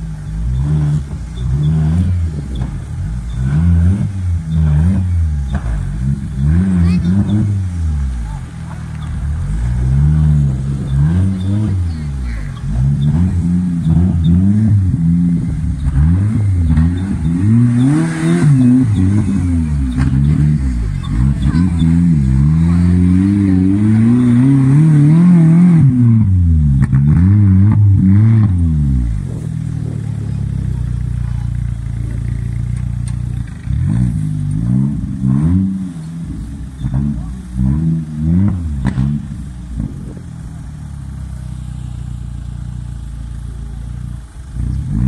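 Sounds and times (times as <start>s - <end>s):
off-road engine revving: 0.0s - 45.0s.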